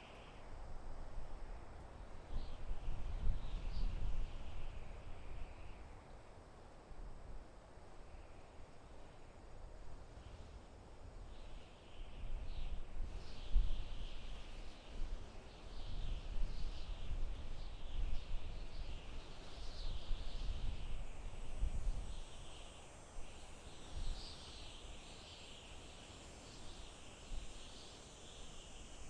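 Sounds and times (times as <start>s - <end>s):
gusty forest wind: 0.0s - 29.0s.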